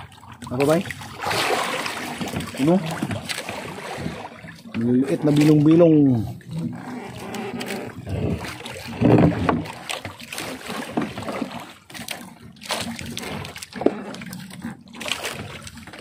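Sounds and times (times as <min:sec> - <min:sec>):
water splashing and dripping: 0:00.0 - 0:16.0.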